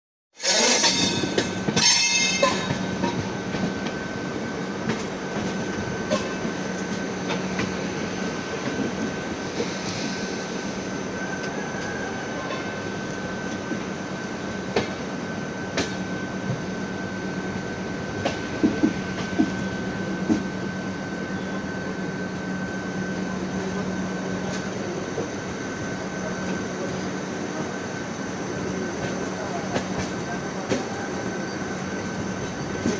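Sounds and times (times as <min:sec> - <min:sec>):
railway coach rumbling: 0:00.4 - 0:32.9.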